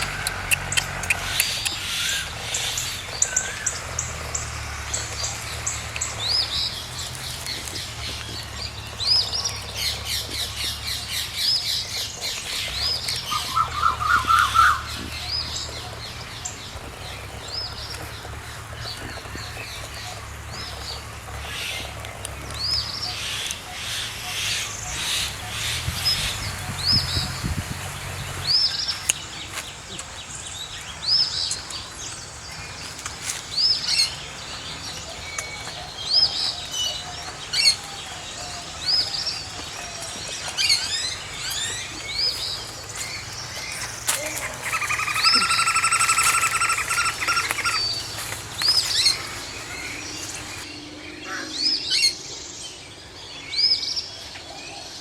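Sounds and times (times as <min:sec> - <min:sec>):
bird chirping: 0:00.0 - 0:55.0
birdsong: 0:00.0 - 0:55.0.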